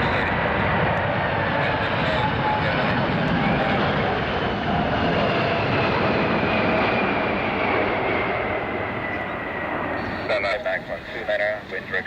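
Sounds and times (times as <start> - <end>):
jet engines running loud: 0.0 - 12.0.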